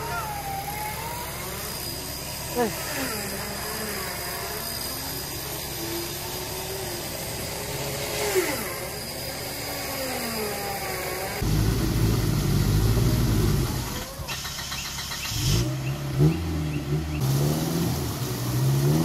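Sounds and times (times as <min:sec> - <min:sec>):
louder deeper engine close by: 0:00.0 - 0:19.0
off-road engine revving: 0:00.0 - 0:19.0.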